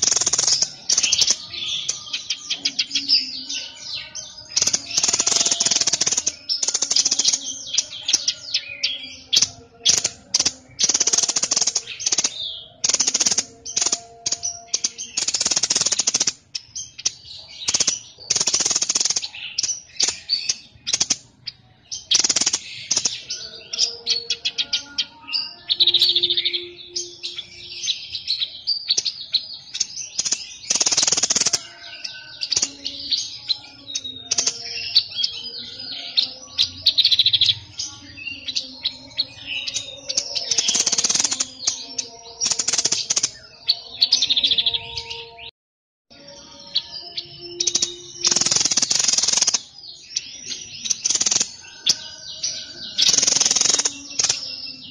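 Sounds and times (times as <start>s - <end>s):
songbird singing: 0.0s - 45.5s, 46.1s - 54.9s.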